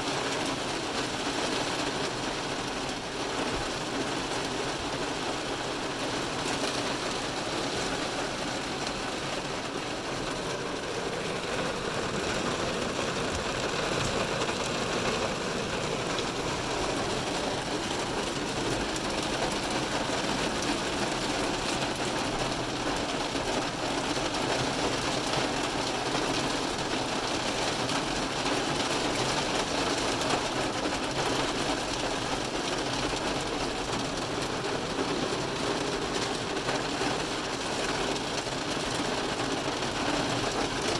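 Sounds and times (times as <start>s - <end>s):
heavy rain on car roof: 0.0s - 40.9s.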